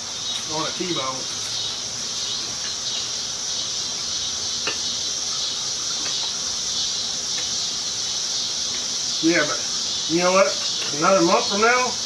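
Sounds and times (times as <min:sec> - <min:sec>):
insects shrilling: 0:00.0 - 0:12.0.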